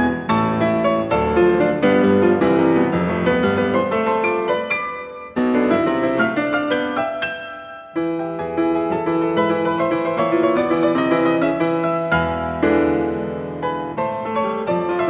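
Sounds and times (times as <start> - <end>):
solo piano music: 0.0 - 15.0.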